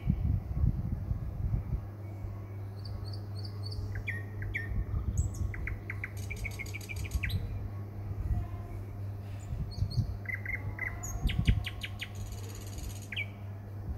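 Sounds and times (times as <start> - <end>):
steady low hum: 0.0 - 13.9
small birds chirping: 2.0 - 13.5.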